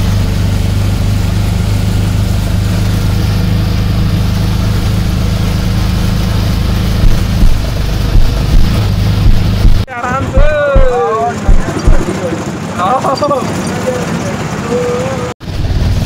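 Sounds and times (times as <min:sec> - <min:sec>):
auto-rickshaw engine running: 0:00.0 - 0:16.0
road and wind noise: 0:00.0 - 0:16.0.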